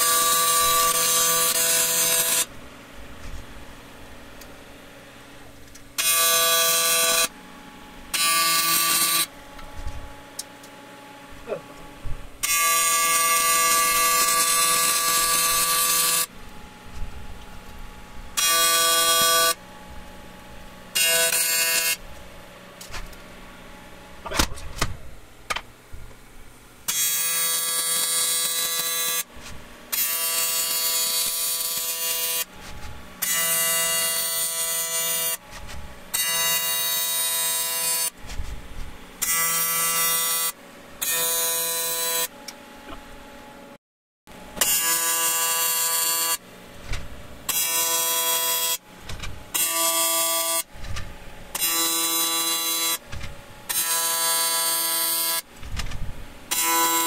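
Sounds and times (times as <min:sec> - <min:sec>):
welding arc buzzing: 0:00.0 - 0:24.5, 0:26.4 - 0:43.2, 0:44.4 - 0:57.0.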